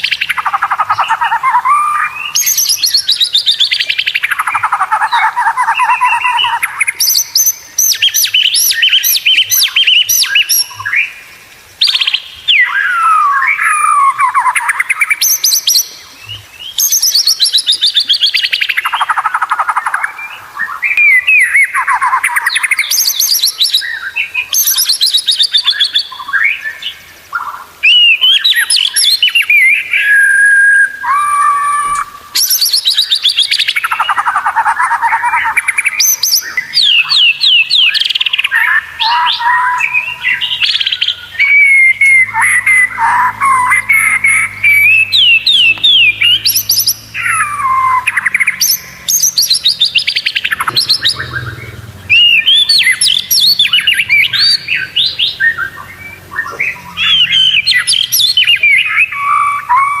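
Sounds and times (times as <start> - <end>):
bird singing trills and whistles: 0.0 - 60.0.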